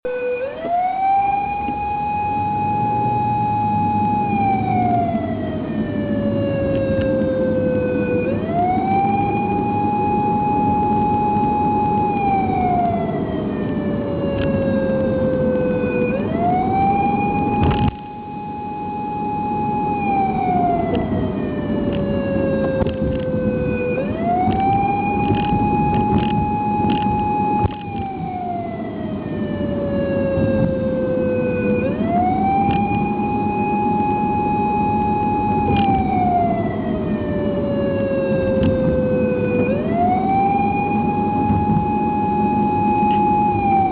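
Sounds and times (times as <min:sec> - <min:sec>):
wailing emergency siren: 0:00.0 - 0:43.9.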